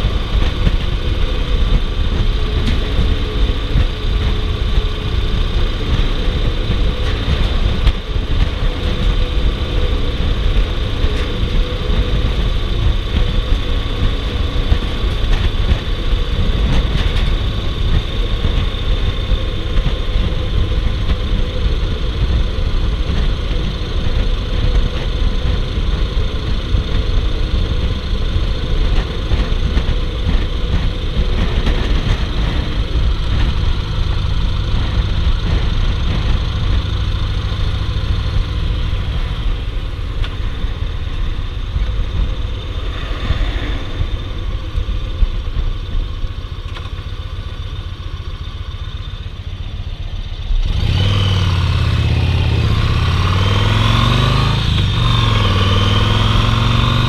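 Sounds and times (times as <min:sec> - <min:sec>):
wind noise: 0:00.0 - 0:47.2
motorcycle engine running: 0:00.0 - 0:57.0.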